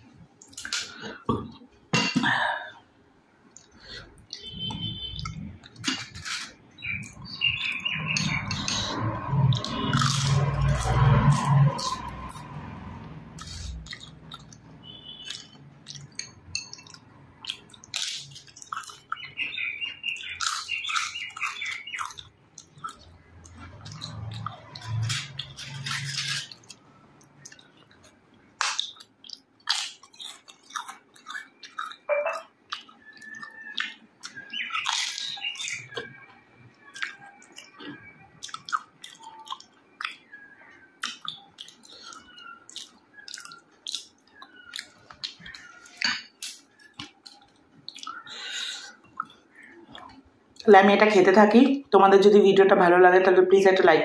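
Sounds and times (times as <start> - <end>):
person chewing food: 3.4 - 50.6.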